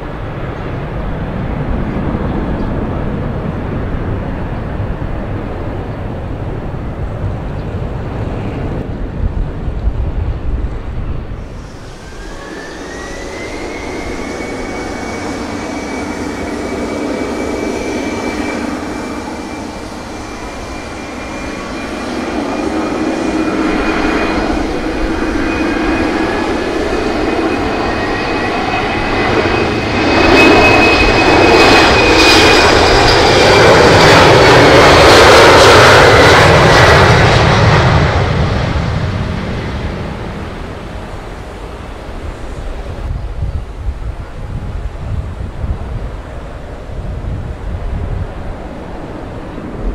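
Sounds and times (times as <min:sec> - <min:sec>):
jet airliner taking off: 0:00.0 - 0:49.9.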